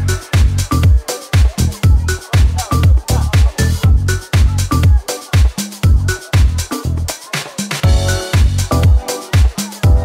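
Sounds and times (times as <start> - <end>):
kick drum: 0.0 - 6.6, 7.8 - 10.0
dance music: 0.0 - 10.0.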